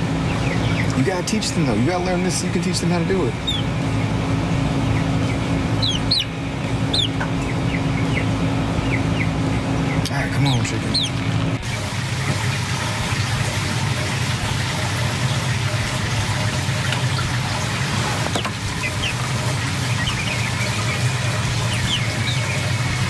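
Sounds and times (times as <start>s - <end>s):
chicks peeping: 0.0s - 23.0s
low hum: 0.0s - 23.0s.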